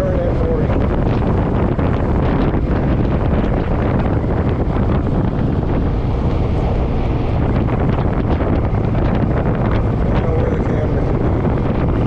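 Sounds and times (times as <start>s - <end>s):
deep motorcycle rumble: 0.0s - 12.0s
wind buffeting microphone: 0.0s - 12.0s.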